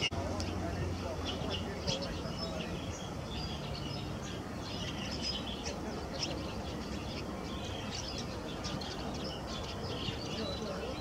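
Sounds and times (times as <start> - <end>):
small birds chirping: 0.0 - 11.0
steady low background noise: 0.0 - 11.0.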